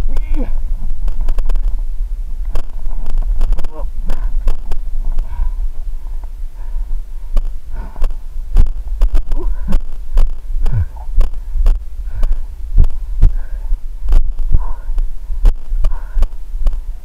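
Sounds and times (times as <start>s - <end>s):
wind and mic handling rumble: 0.0s - 17.0s
heavy breathing: 2.5s - 8.6s, 9.2s - 17.0s.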